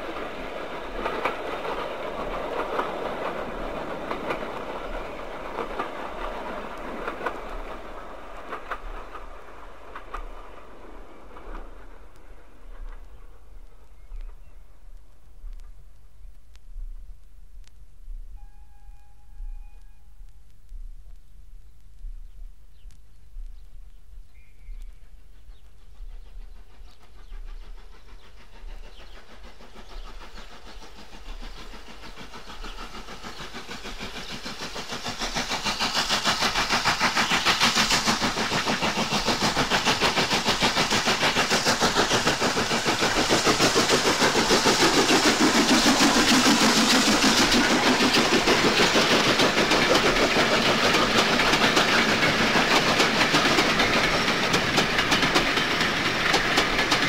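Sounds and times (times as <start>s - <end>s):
steam locomotive exhaust beats: 0.0s - 21.3s, 21.9s - 57.0s.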